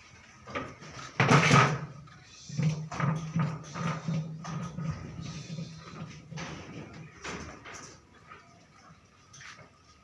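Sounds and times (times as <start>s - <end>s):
low background noise: 0.0s - 10.0s.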